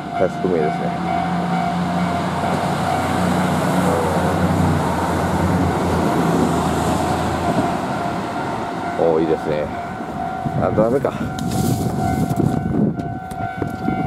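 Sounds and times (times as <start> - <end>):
level crossing bells ringing: 0.0 - 5.1, 5.7 - 14.0
diesel railcar passing: 0.0 - 14.0.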